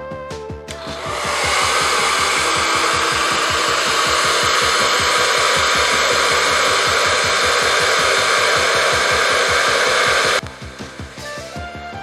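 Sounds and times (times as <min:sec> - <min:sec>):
hot-air blower rushing: 0:00.7 - 0:11.5.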